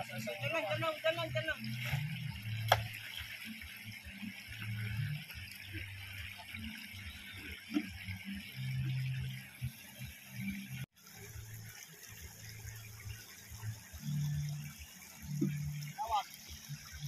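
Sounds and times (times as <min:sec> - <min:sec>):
stream water splashing: 0:00.0 - 0:17.0.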